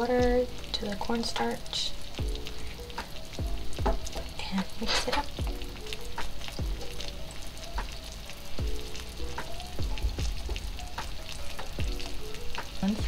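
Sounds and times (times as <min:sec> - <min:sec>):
sizzling hiss: 0:00.0 - 0:13.0.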